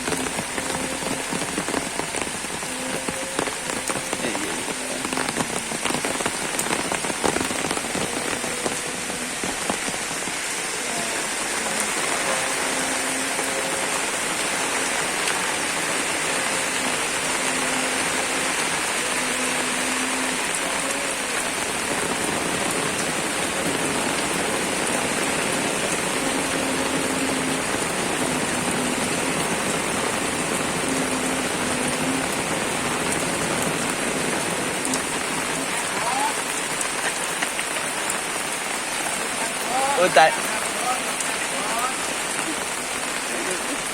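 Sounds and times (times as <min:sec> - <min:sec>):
raindrops striking close by: 0:00.0 - 0:43.9
steady rain falling: 0:00.0 - 0:43.9.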